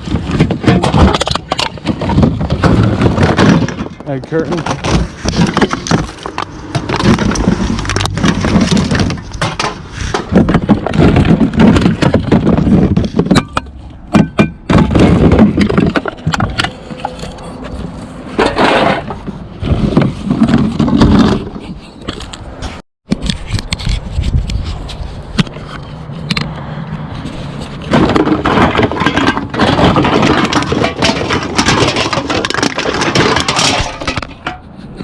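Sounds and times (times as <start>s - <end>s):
rummaging through garbage containers: 0.0s - 22.8s, 27.2s - 35.0s.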